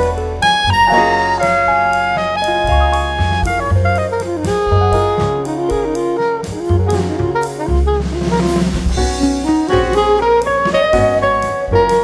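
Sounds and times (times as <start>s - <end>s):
instrumental background music: 0.0s - 12.0s
steady drum beat: 0.7s - 12.0s.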